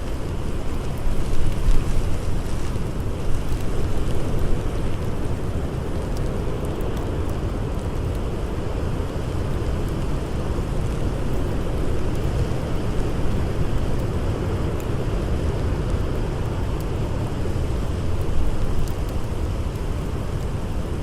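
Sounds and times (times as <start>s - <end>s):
blizzard wind rumbling: 0.0s - 21.0s
campfire crackles: 0.0s - 21.0s.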